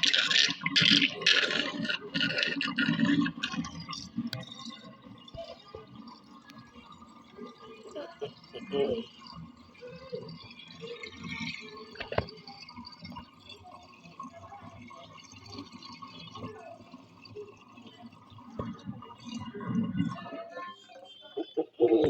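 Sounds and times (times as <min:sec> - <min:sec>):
water swirling in a vortex: 0:00.0 - 0:22.0.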